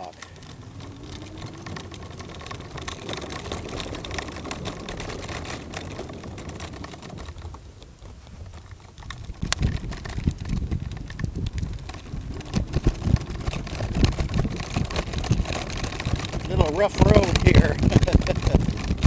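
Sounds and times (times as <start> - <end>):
low rumbling: 0.0 - 19.0
scooter wheels clattering on boards: 0.0 - 19.0.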